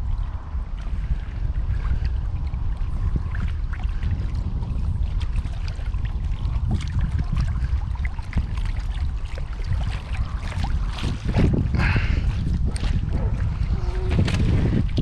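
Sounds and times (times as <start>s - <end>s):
light water splashes: 0.0s - 15.0s
wind buffeting microphone: 0.0s - 15.0s.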